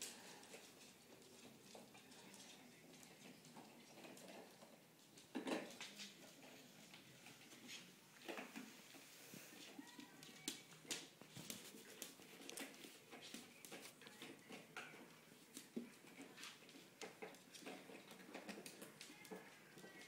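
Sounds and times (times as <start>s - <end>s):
puppy claws clicking on floor: 0.0s - 9.0s, 9.6s - 20.0s.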